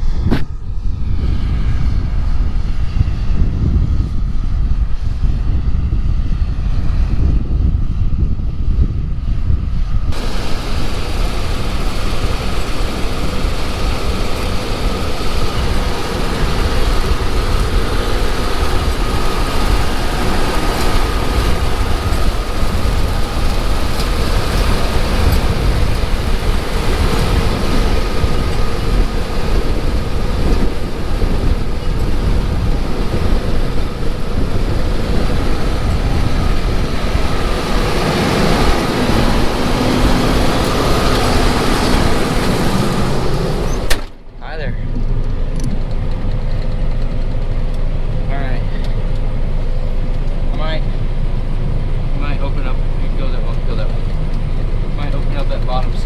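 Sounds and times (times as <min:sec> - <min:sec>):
combine harvester running: 0:08.6 - 0:56.0
hissy machine noise with hum: 0:08.7 - 0:56.0.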